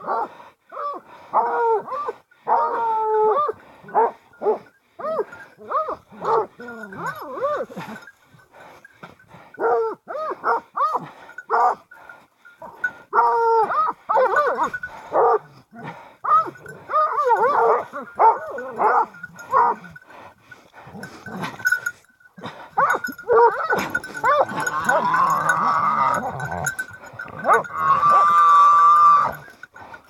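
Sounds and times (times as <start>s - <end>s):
dogs barking and baying: 0.0s - 30.0s.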